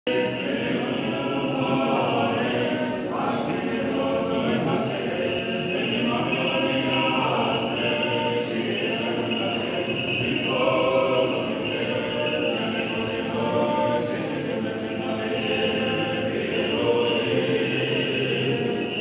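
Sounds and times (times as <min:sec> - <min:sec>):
voices singing unaccompanied hymn: 0:00.0 - 0:19.0.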